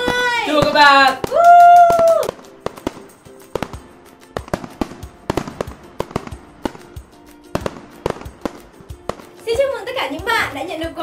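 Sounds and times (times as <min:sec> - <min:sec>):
firework cracks and pops: 0:00.0 - 0:09.7
faint background music: 0:00.0 - 0:11.0.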